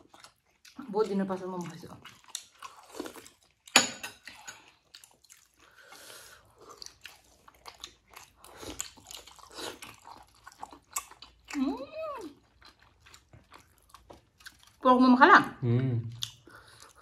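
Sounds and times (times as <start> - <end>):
chewing with wet mouth noises: 0.0 - 14.9, 16.0 - 17.0.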